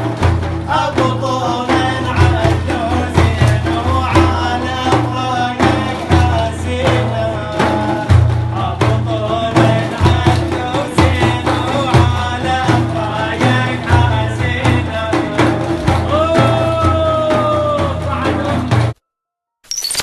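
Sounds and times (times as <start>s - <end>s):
steady drum beat: 0.0s - 19.0s.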